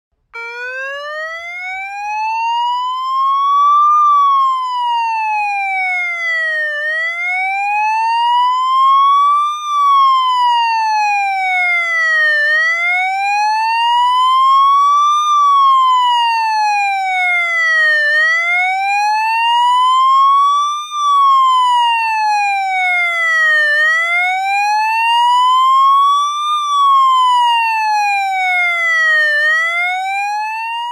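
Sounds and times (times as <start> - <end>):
police siren wailing: 0.4 - 30.9.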